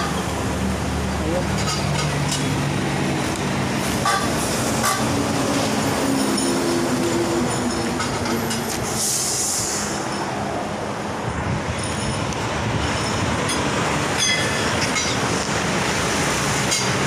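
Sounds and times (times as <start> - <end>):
heavy highway traffic roar: 0.0 - 17.0.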